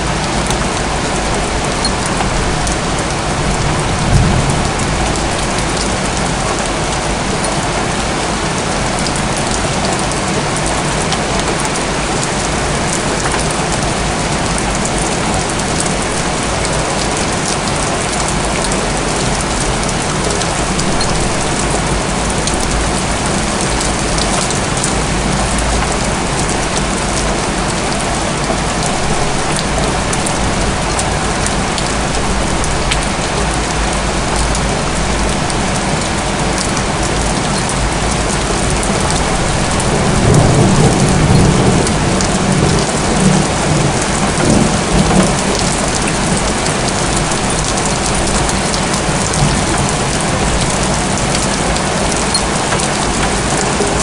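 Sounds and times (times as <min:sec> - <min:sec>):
rain falling on rooftops: 0:00.0 - 0:54.0
raindrops ticking close by: 0:00.0 - 0:54.0.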